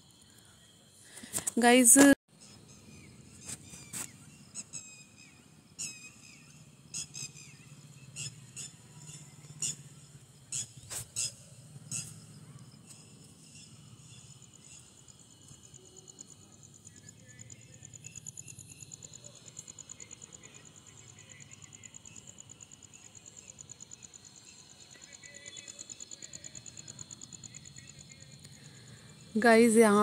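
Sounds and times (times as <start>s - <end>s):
cricket chirring: 0.0s - 1.8s, 2.4s - 30.0s.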